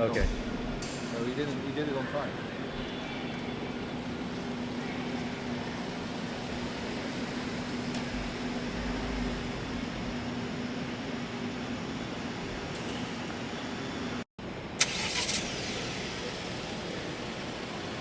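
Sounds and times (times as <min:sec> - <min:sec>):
mechanical hum: 0:00.0 - 0:14.8, 0:15.5 - 0:18.0.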